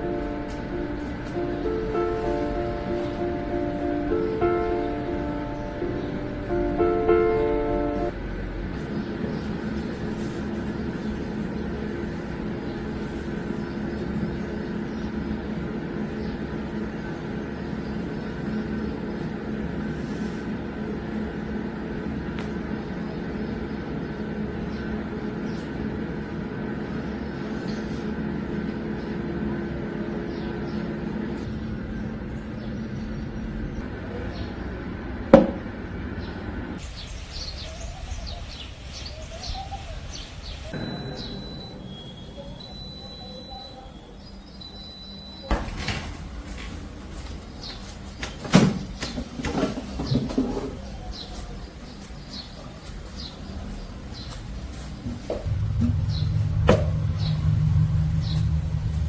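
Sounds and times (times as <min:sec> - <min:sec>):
birds chirping: 0:00.0 - 0:59.0
steady mechanical hum: 0:00.0 - 0:59.0.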